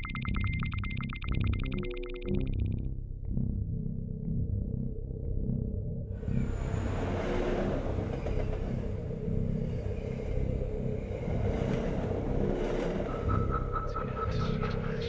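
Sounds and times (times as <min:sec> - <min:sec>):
low rumble: 0:02.3 - 0:15.0.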